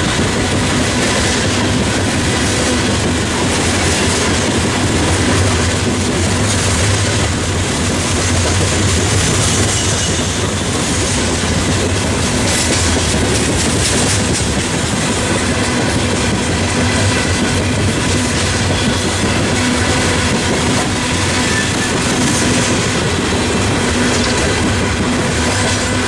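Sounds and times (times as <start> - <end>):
train wheels rolling and rattling: 0.0 - 26.0.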